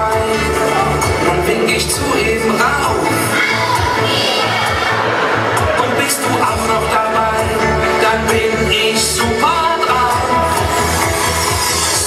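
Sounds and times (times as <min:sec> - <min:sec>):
electronic pop music: 0:00.0 - 0:12.0.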